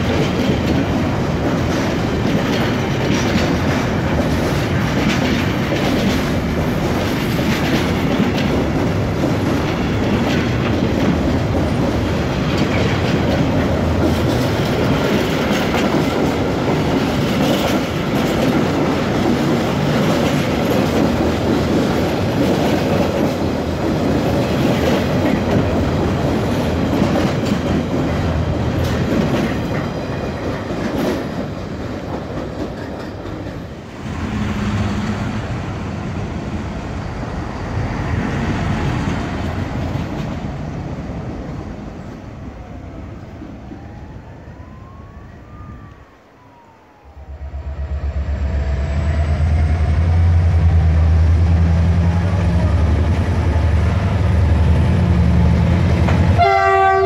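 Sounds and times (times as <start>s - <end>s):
train wheels rumbling on rails: 0.0s - 45.0s, 45.6s - 57.0s.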